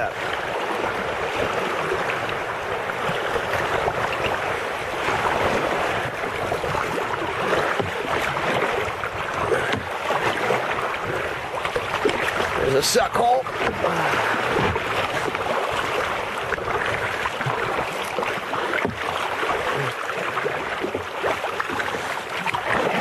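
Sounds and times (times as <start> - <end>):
water rushing around kayak: 0.0 - 23.0.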